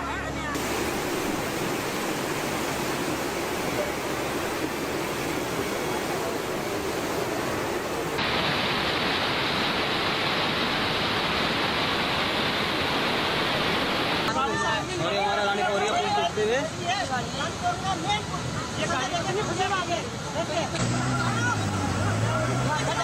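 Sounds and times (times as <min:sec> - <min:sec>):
rushing floodwater: 0:00.5 - 0:23.0.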